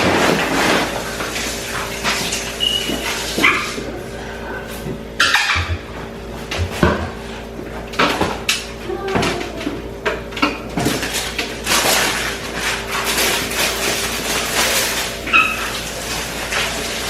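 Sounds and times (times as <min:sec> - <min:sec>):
containers and doors clattering: 0:00.0 - 0:17.0.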